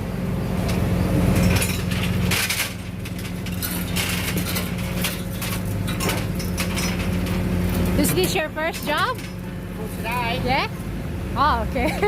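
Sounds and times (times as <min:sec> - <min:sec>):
engine humming: 0:00.0 - 0:12.0
metal clanks and rattles: 0:00.6 - 0:11.0.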